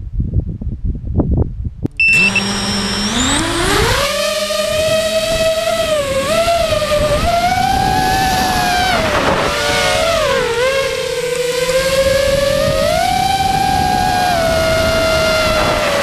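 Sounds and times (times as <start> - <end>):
quadcopter motors whining: 1.9 - 16.0.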